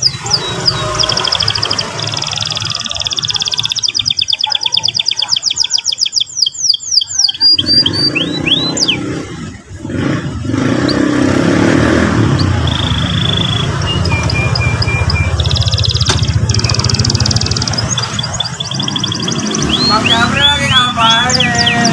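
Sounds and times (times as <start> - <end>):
canary singing trills: 0.0 - 21.9.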